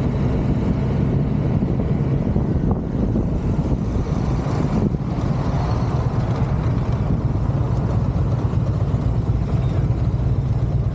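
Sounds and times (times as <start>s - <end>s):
road and air noise: 0.0s - 10.9s
scooter engines droning: 0.0s - 10.9s.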